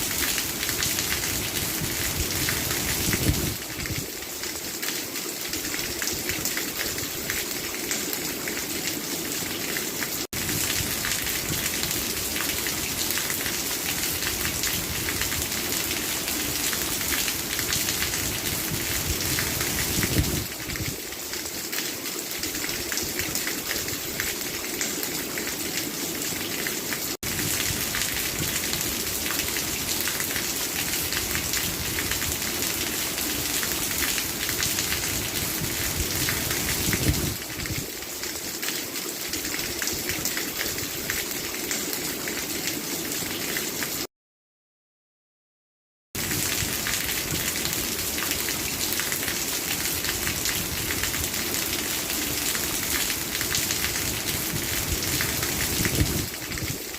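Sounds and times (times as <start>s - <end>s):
steady rain falling: 0.0s - 44.1s, 46.2s - 56.9s.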